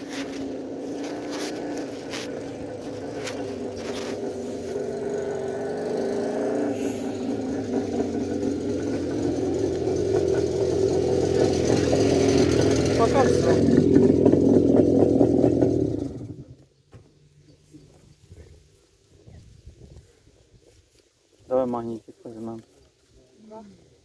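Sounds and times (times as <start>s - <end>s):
vehicle engine droning: 0.0s - 20.2s.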